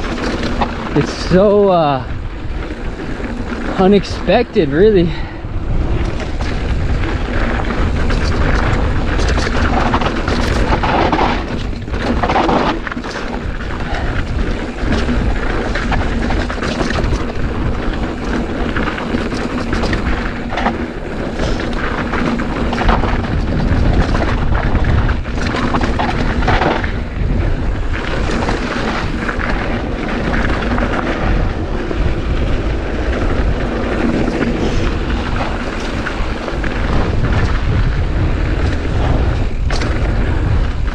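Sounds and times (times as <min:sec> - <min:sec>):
bike knocks and rattles on dirt: 0:00.0 - 0:03.8, 0:05.2 - 0:40.9
wind buffeting microphone: 0:00.0 - 0:40.9.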